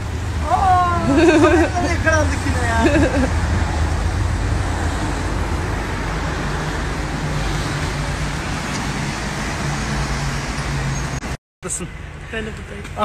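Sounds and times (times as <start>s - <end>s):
vehicles passing on wet road: 0.0s - 13.0s.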